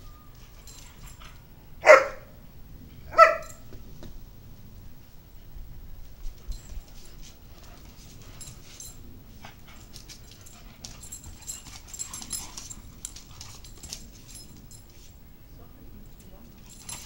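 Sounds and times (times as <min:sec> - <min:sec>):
dogs play-fighting on paving: 0:00.0 - 0:17.0.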